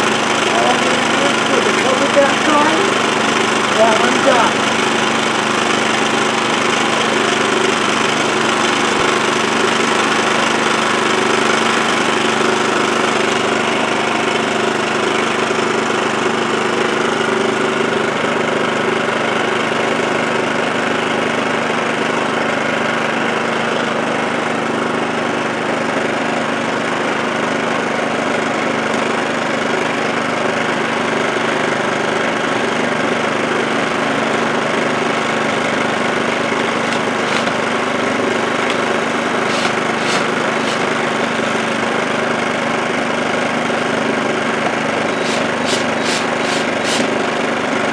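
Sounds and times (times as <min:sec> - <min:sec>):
small generator engine running: 0:00.0 - 0:47.9.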